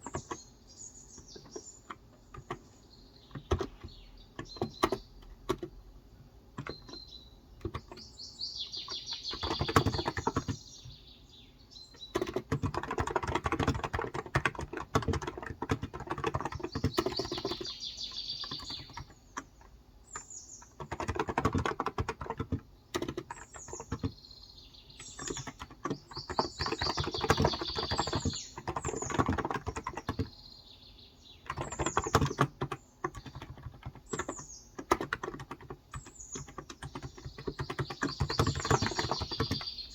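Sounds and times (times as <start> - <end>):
keyboard typing: 0.0 - 0.5, 1.2 - 5.8, 6.5 - 8.1, 8.8 - 10.6, 11.9 - 17.8, 18.4 - 24.2, 25.0 - 30.3, 31.4 - 39.9
birds chirping: 0.0 - 39.9.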